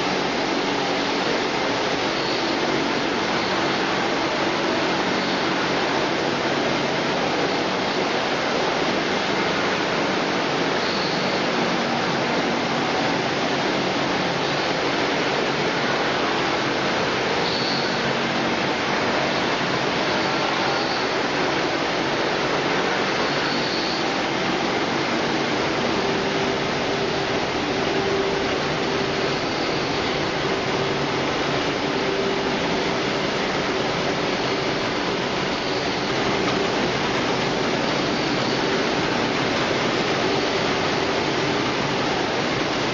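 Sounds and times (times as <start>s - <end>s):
conveyors and machine motors: 0.0s - 42.9s
faint hum: 0.0s - 42.9s.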